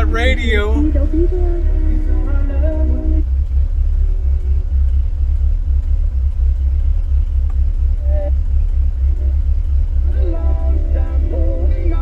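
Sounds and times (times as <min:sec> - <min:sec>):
faint car radio: 0:00.0 - 0:12.0
loud low rumble: 0:00.0 - 0:12.0.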